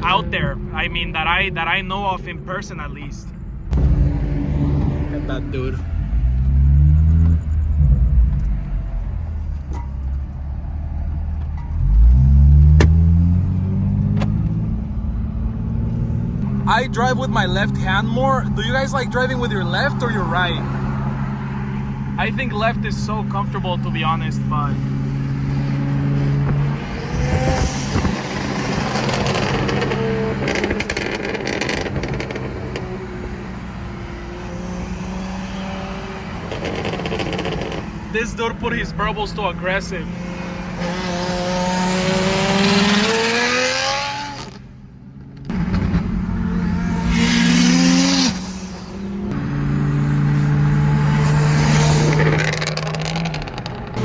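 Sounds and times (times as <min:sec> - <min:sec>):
car engine rumbling: 0:00.0 - 0:54.0
exhaust crackling: 0:00.0 - 0:54.0.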